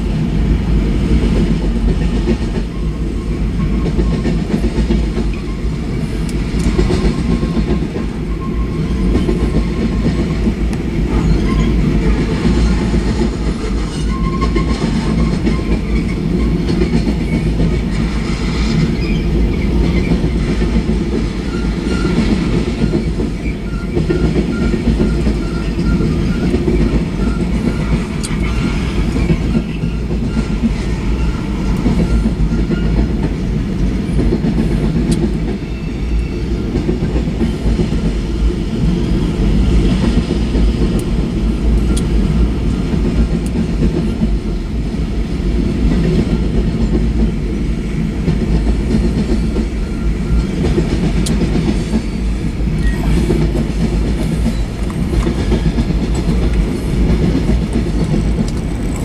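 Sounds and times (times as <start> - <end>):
clickety-clack over rail joints: 0.0 - 59.0
freight train wheels rumbling: 0.0 - 59.0.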